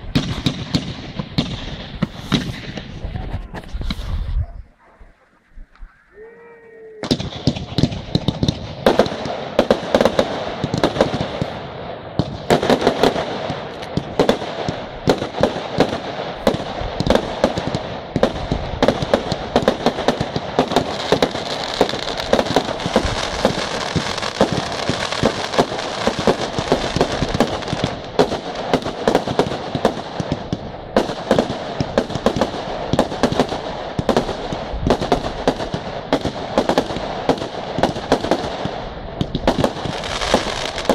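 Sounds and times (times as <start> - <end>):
fireworks bangs and crackling: 0.0 - 5.9, 7.0 - 40.9.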